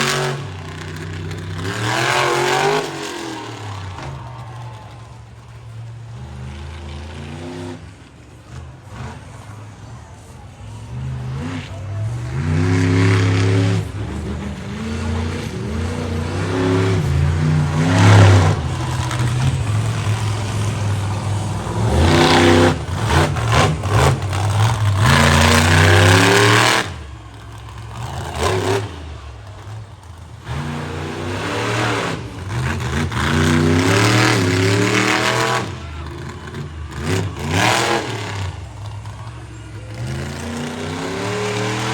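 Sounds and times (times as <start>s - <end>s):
truck engine revving hard: 0.0s - 9.6s, 10.6s - 41.9s.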